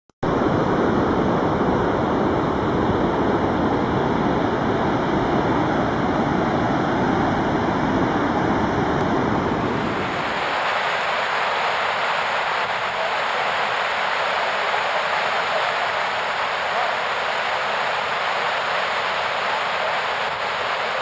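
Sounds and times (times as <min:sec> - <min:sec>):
waterfall rushing: 0:01.7 - 0:21.0.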